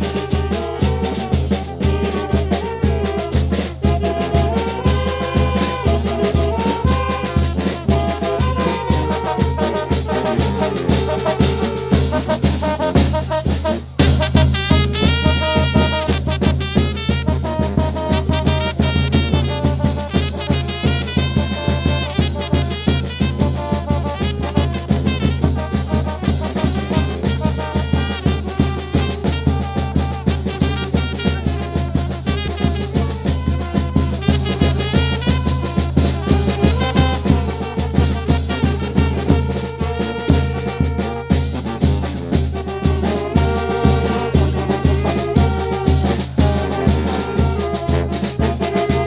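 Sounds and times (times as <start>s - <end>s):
brass band music: 0.0s - 49.0s.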